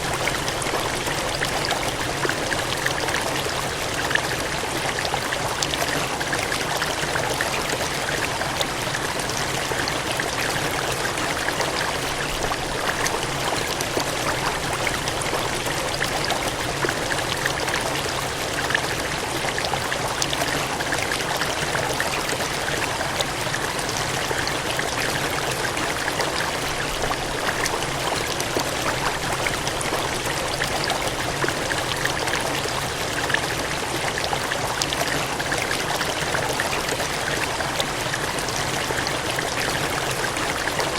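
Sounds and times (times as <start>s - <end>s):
water gushing and cascading: 0.0s - 40.9s.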